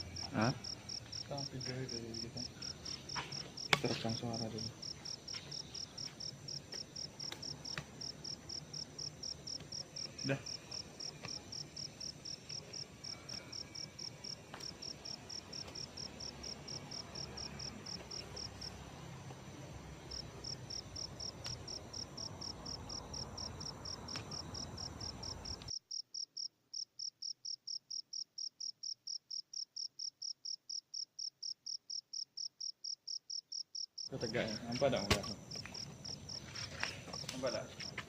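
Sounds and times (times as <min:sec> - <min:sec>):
background hiss: 0:00.0 - 0:38.0
cricket chirping: 0:00.0 - 0:38.0.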